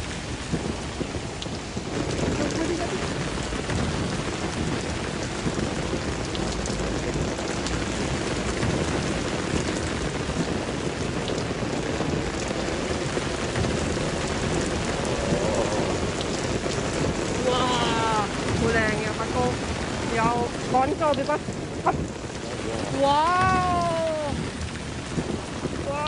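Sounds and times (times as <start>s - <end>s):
heavy rain on stone and foliage: 0.0s - 26.0s.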